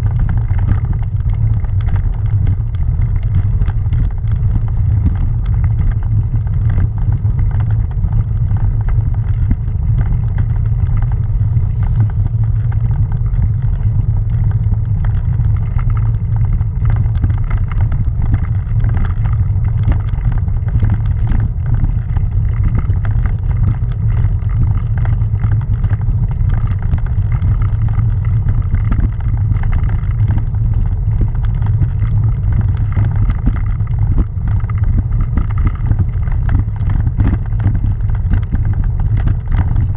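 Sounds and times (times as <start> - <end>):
bicycle rattling over cobblestones: 0.0 - 39.9.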